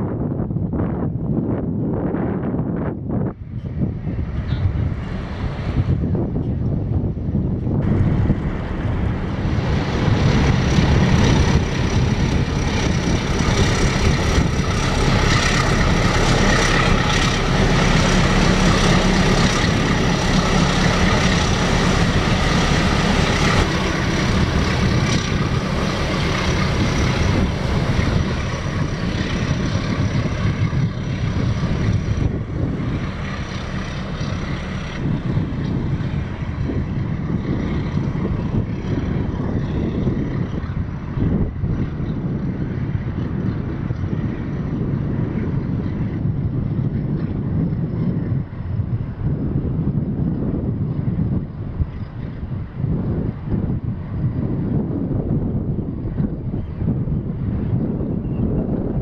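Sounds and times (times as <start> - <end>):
ship diesel engine drone: 3.9 - 59.0.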